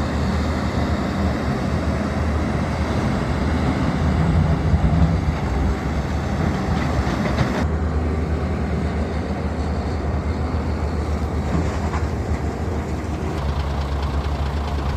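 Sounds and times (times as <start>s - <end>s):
diesel machinery engine drone: 0.0s - 14.9s.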